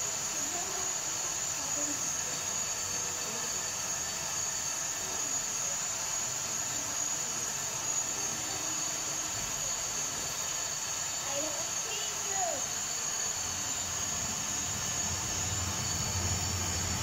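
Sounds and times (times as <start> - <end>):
jet engine hiss and whine: 0.0 - 17.0.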